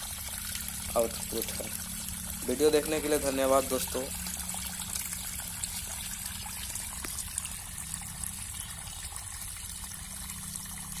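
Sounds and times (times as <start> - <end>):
water trickling from pipe: 0.0 - 11.0.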